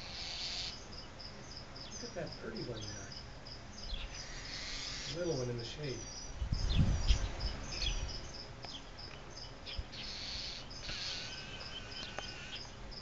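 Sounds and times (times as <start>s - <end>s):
small birds chirping: 0.0s - 13.0s
falling bird chirps: 1.8s - 12.8s.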